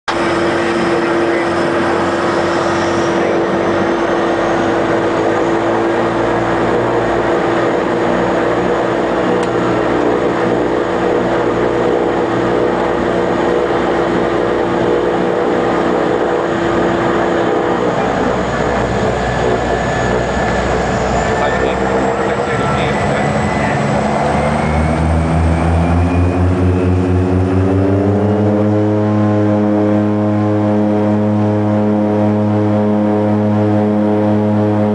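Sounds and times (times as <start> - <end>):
turboprop engines droning: 0.1 - 34.9.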